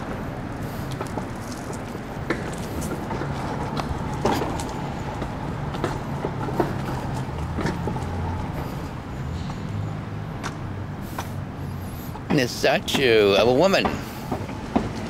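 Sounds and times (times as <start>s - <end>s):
footsteps on brick path: 0.0s - 13.1s
city traffic hum: 0.0s - 15.0s.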